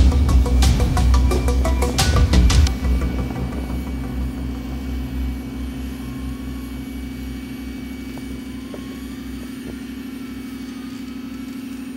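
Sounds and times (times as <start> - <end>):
buggy engine running low: 0.0 - 11.9.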